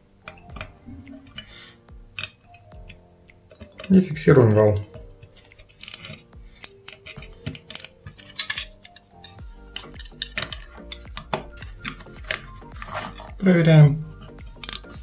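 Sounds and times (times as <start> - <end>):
small metal clicks and taps: 0.1 - 13.5, 14.2 - 15.0.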